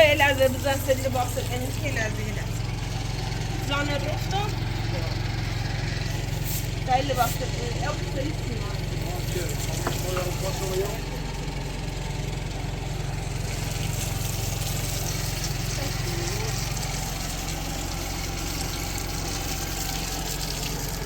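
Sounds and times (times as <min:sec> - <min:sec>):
cement mixer running: 0:00.0 - 0:21.0.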